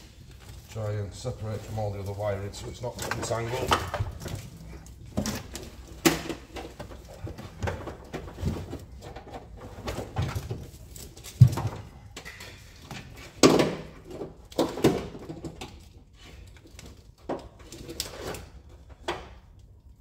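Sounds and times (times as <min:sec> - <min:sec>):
wiring rustling and clicking: 0:00.1 - 0:20.0.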